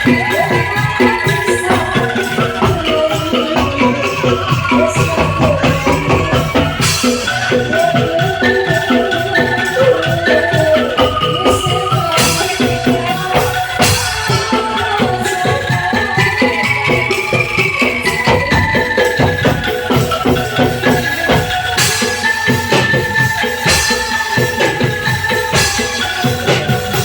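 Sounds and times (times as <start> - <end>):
bamboo tubes rattling melody: 0.0 - 27.0.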